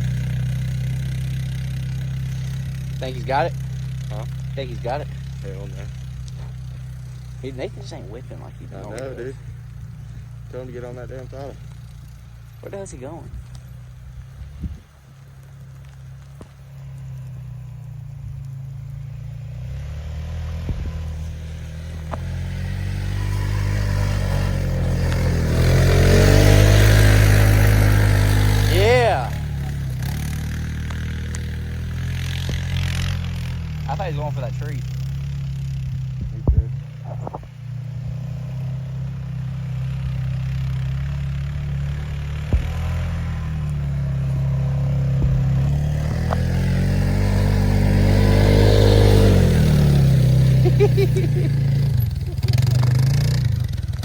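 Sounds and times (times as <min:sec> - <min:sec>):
vehicle engine under throttle: 0:00.0 - 0:54.0.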